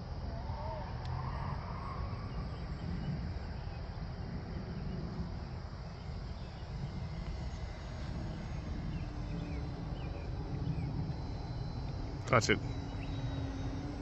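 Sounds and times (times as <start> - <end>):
wind rumble on microphone: 0.0 - 14.0
birds chirping: 2.0 - 14.0.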